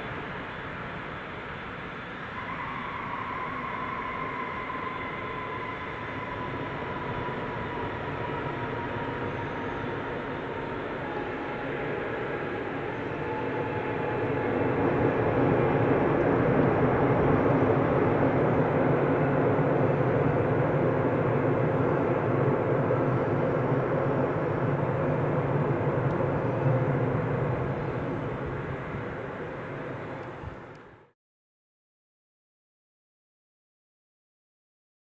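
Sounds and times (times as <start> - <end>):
jet engines roaring: 0.0 - 30.8.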